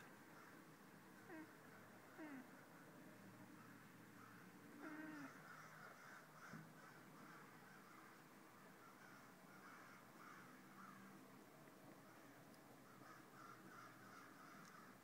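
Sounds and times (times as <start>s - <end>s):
faint crows cawing: 0.3s - 11.2s, 11.9s - 15.0s.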